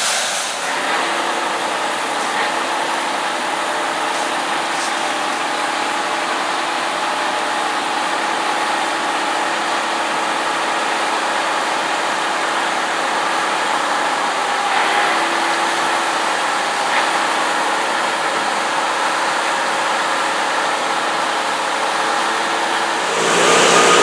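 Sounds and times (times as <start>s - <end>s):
combine harvesters running: 0.0s - 24.0s.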